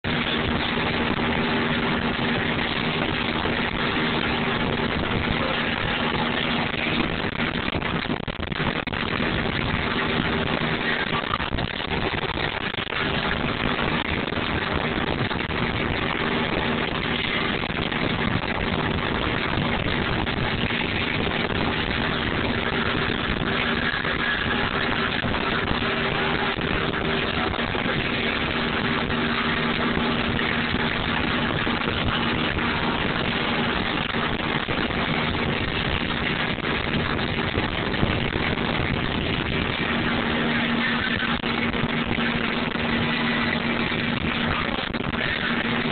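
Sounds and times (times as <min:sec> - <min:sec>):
motorboat engine humming: 0:00.0 - 0:45.9
wind and water rushing: 0:00.0 - 0:45.9.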